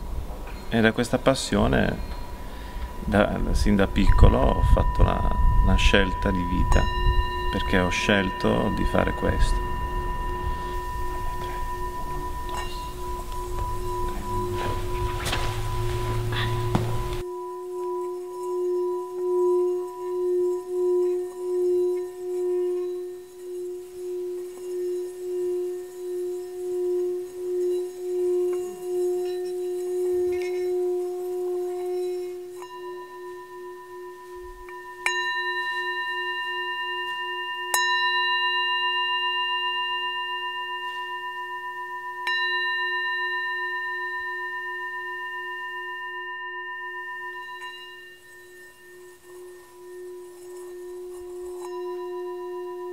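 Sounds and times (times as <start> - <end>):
ringing bell-like tones: 0.0 - 52.9.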